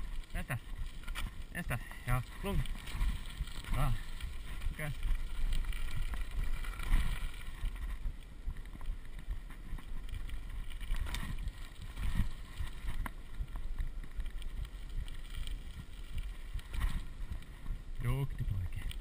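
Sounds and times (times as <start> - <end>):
tyres crunching on gravel: 0.0 - 19.0
wind buffeting microphone: 0.0 - 19.0.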